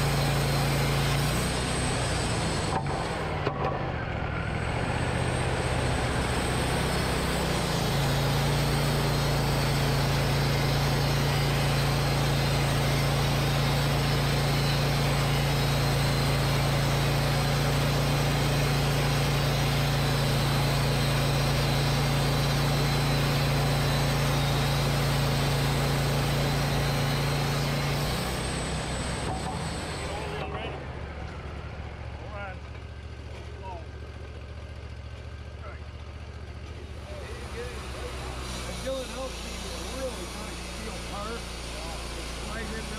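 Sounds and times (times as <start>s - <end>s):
band sawmill sawing log: 0.0s - 42.9s.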